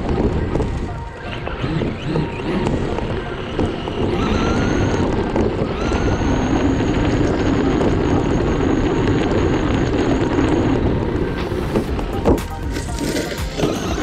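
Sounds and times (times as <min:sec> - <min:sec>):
electric motor whining: 0:00.0 - 0:14.0
tires churning sand: 0:00.0 - 0:14.0.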